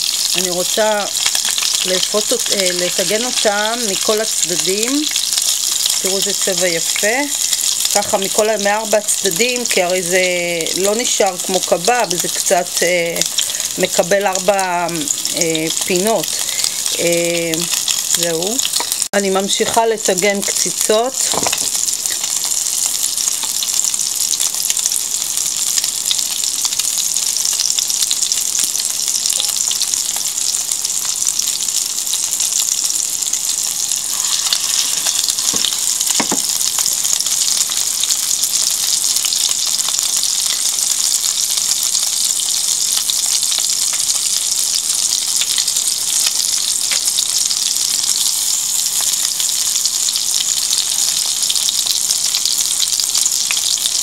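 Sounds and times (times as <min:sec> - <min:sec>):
patties sizzling in oil: 0:00.0 - 0:54.0.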